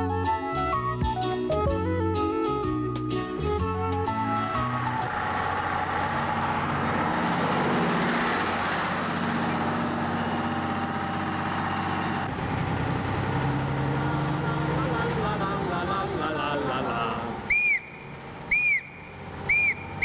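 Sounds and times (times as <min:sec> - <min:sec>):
bus driving past: 0:00.0 - 0:20.0
low engine hum: 0:00.0 - 0:20.0.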